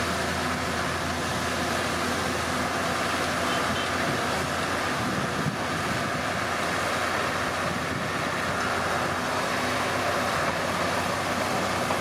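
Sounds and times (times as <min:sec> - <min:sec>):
heavy machinery diesel engine running: 0:00.0 - 0:12.0.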